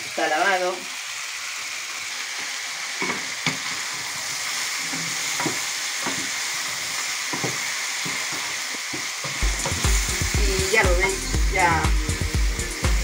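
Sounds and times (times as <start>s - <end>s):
meat and tomato sizzling: 0.0s - 13.0s.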